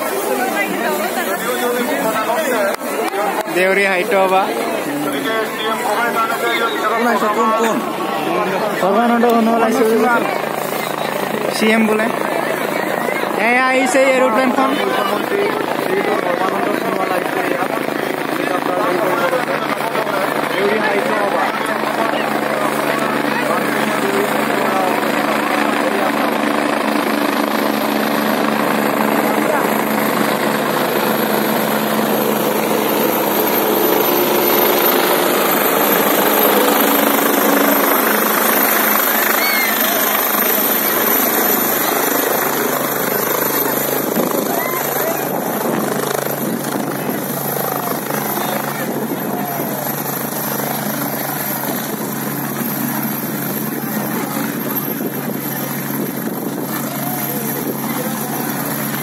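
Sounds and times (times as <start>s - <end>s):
faint crowd voices: 0.0s - 59.0s
helicopter rotor and engines: 0.0s - 59.0s.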